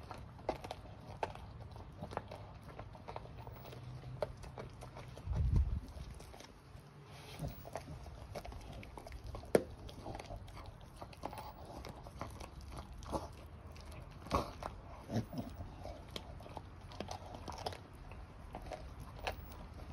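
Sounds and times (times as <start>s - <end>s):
dog chewing bone: 0.0s - 19.9s.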